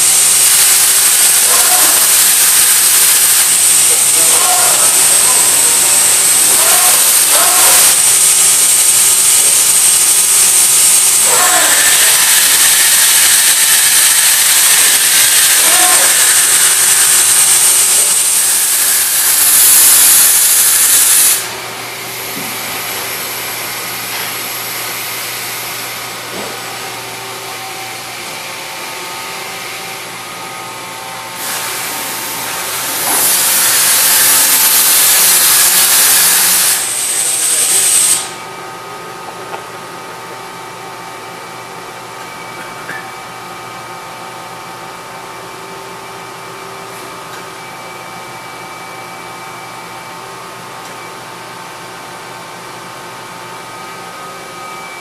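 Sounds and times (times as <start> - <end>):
cnc machine hissing and whining: 0.0 - 55.0.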